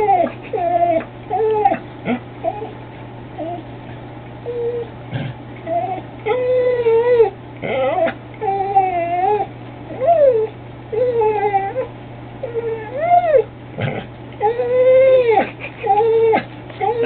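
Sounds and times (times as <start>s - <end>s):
pet whining: 0.0s - 17.0s.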